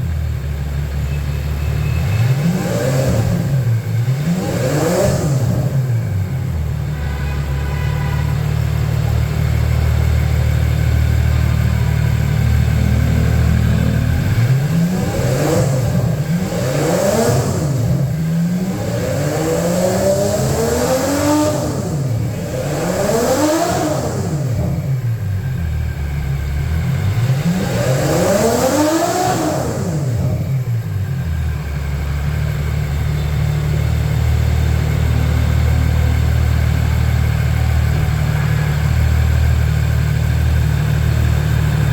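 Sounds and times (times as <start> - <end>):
engine idling and revving: 0.0 - 41.9.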